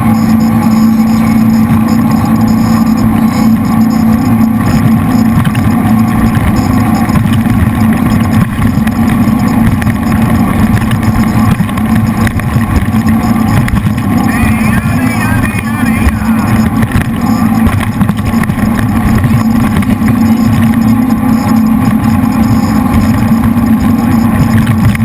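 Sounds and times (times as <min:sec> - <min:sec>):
boat engines running loudly: 0:00.0 - 0:25.0.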